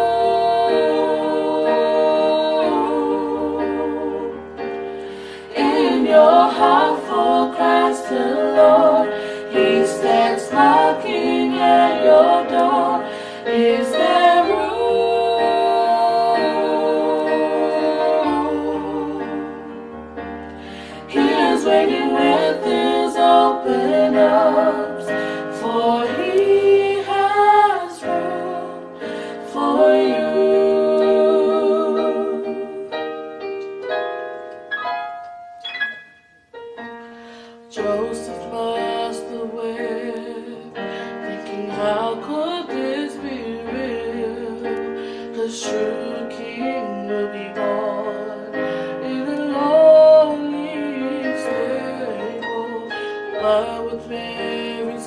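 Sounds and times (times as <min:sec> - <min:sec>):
women singing gospel harmony: 0:00.0 - 0:19.9, 0:20.6 - 0:33.1, 0:37.7 - 0:55.0
keyboard accompaniment: 0:00.0 - 0:55.0.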